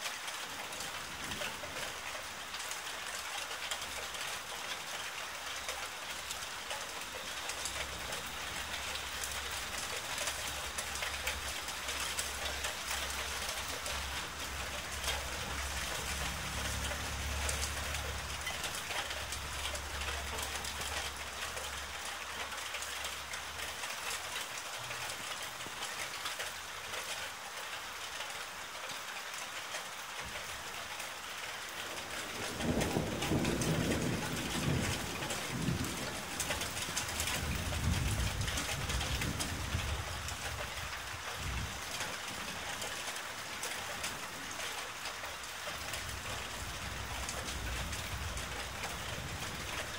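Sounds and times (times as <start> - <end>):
heavy rain hissing: 0.4 - 26.2, 31.6 - 49.9.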